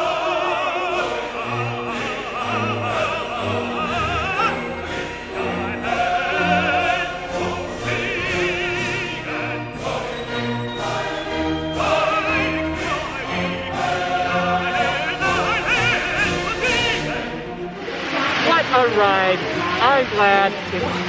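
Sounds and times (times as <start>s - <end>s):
operatic voice singing: 0.0s - 21.0s
orchestral accompaniment: 0.0s - 21.0s.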